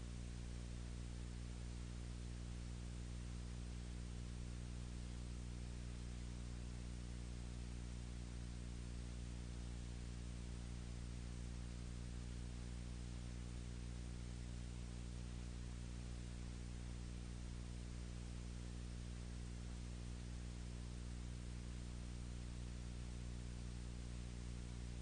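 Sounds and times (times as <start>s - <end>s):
constant hiss: 0.0s - 25.0s
electrical hum: 0.0s - 25.0s.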